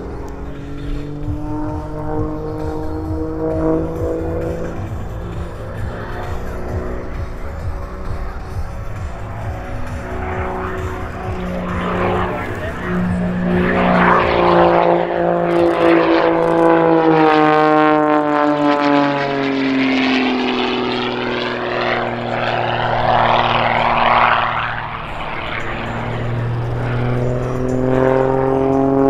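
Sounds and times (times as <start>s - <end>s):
propeller plane engine drone: 0.0s - 29.0s.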